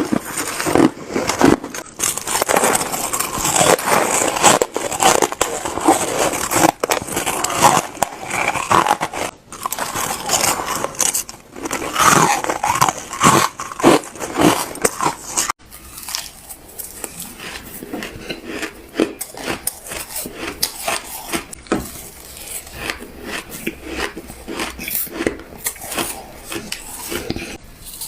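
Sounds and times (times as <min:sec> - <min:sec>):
crunching and chewing shaved ice: 0:00.0 - 0:28.0.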